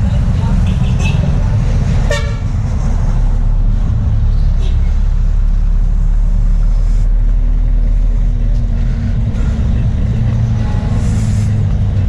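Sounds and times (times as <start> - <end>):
steady engine hum: 0.0 - 12.0
vehicles droning on road: 0.0 - 12.0.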